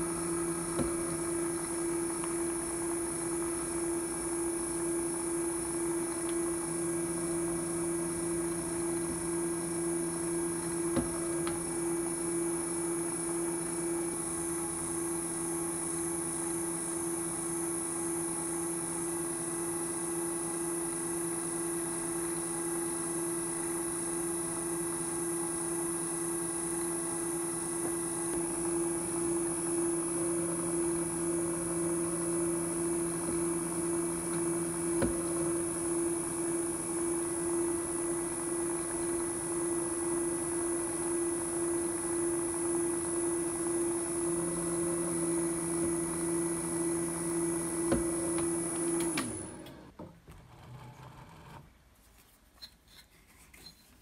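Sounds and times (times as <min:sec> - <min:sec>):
drill press whining: 0:00.0 - 0:51.6.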